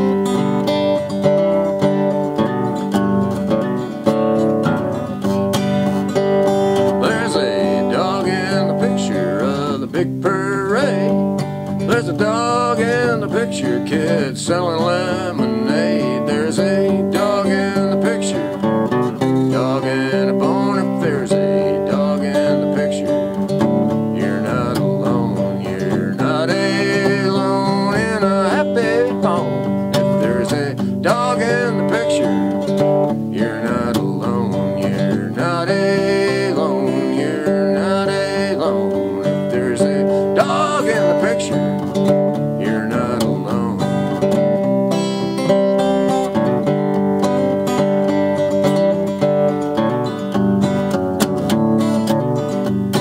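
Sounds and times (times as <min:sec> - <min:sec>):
acoustic guitar strummed and picked: 0:00.0 - 0:53.0.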